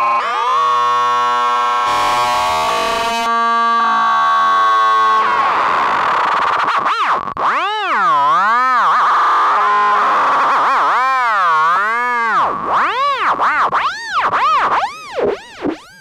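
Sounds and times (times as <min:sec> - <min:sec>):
buzzy synthesizer tone: 0:00.0 - 0:16.0.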